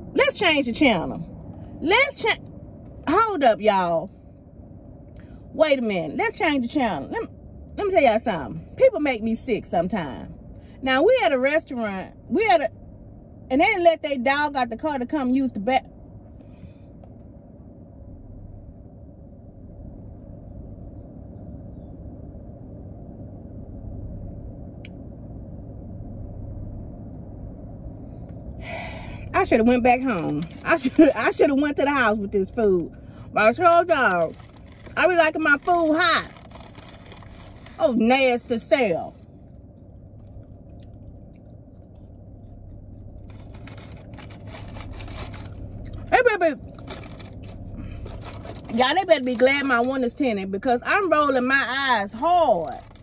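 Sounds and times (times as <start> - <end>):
car engine idling: 0.0 - 53.0
steady low hum: 0.0 - 53.0.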